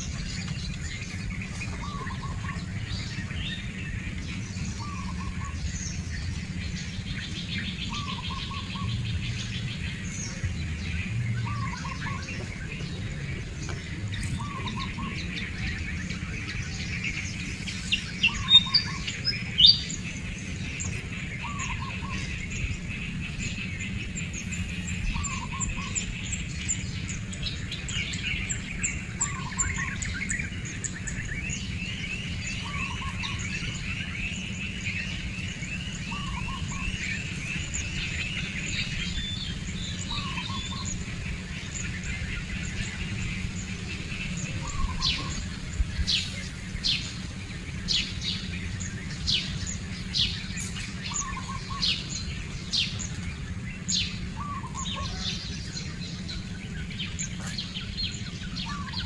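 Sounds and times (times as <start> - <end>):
bird chirps: 0.0 - 59.0.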